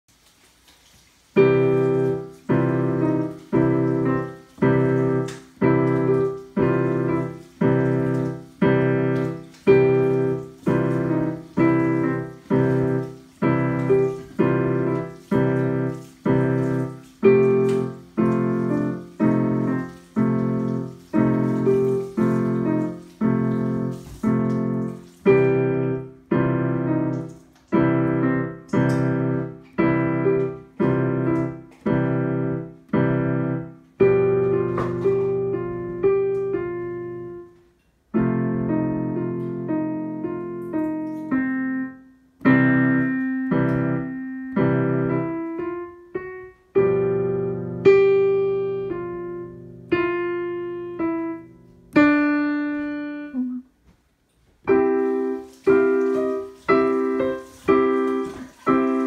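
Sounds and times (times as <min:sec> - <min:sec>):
digital piano chords: 0:01.3 - 0:53.8, 0:54.6 - 0:59.0.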